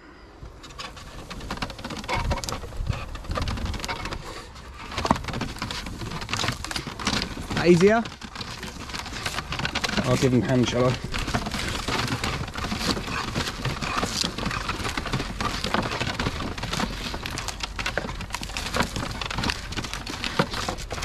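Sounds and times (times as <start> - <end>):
cable drum clicking and rattling: 0.5 - 21.0.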